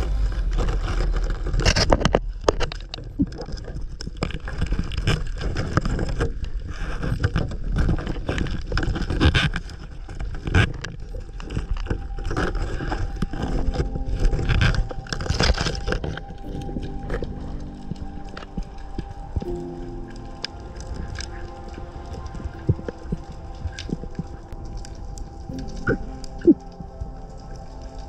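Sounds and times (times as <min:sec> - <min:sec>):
underwater low rumble: 0:00.0 - 0:28.0.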